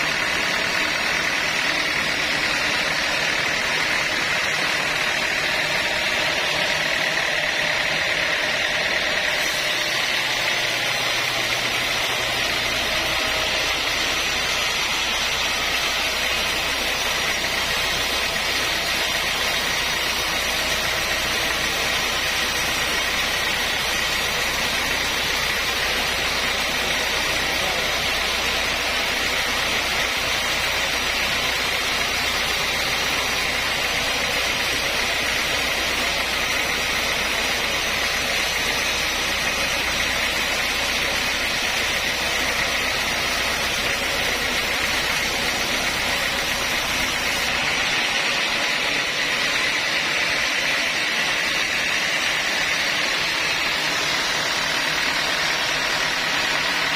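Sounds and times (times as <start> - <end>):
saw cutting wood: 0.0 - 56.9.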